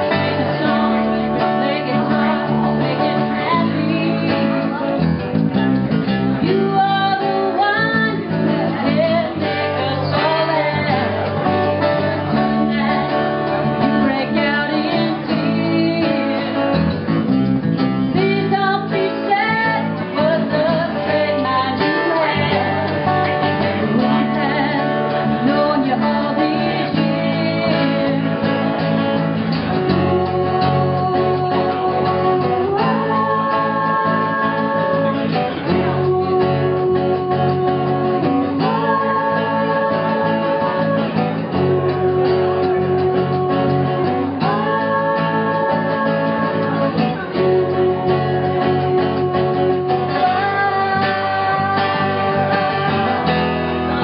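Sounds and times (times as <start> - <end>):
person singing: 0.0 - 5.2, 6.0 - 54.0
acoustic guitar strumming: 0.0 - 54.0.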